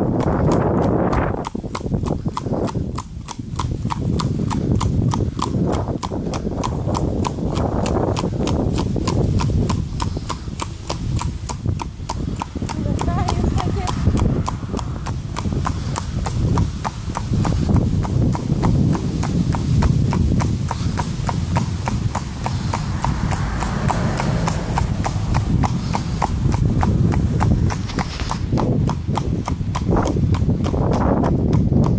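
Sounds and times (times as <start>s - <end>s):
horse hooves clip-clopping on pavement: 0.0s - 31.9s.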